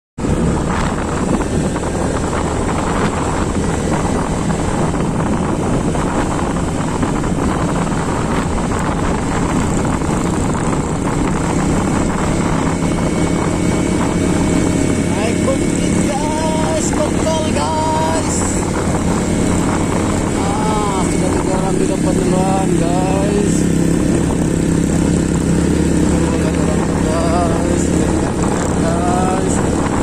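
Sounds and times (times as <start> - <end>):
vehicle engine running: 0.2 - 30.0.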